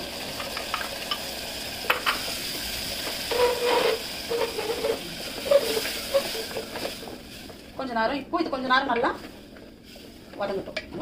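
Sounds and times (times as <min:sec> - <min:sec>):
paste sizzling in hot oil: 0:00.0 - 0:10.6.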